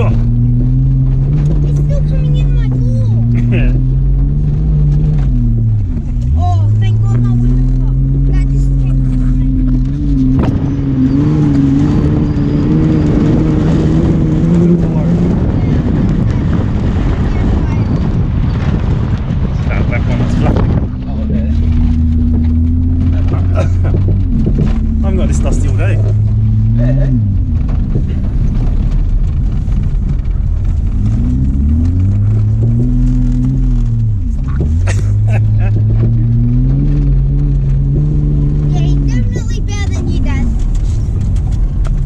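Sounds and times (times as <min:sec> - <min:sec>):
car engine running hard: 0:00.0 - 0:42.0
tyres rumbling on gravel: 0:00.0 - 0:42.0.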